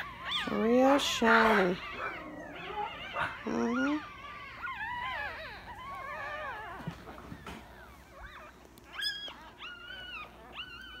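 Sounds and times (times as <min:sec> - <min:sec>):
puppies whimpering: 0:00.0 - 0:11.0
puppy squeals: 0:00.0 - 0:11.0.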